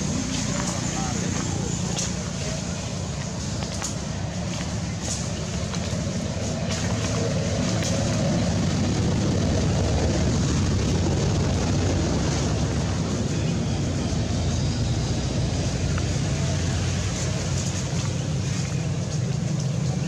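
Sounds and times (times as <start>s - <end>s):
low rumbling noise with hiss: 0.0s - 20.0s.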